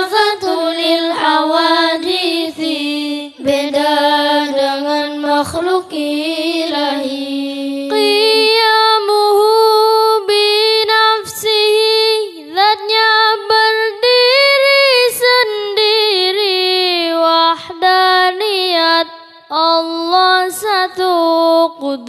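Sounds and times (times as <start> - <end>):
person singing melismatic devotional song: 0.0 - 22.0.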